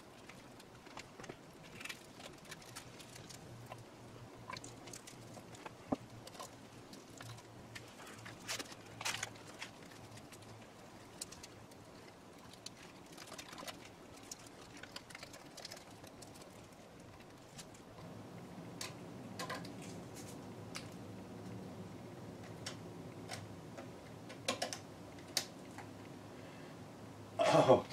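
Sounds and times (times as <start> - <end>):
masking tape clicks and crinkles: 0.0 - 18.1, 18.7 - 21.6, 22.4 - 26.2.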